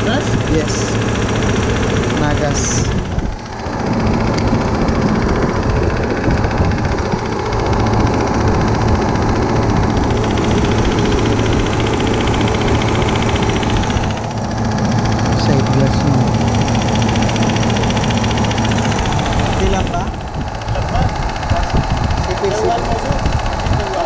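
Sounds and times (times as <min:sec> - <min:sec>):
refrigeration compressor humming: 0:00.0 - 0:24.0.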